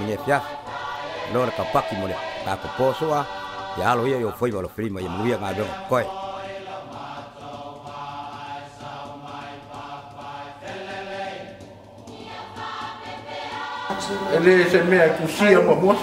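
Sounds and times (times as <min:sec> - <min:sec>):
choir singing slow chords: 0:00.0 - 0:16.0.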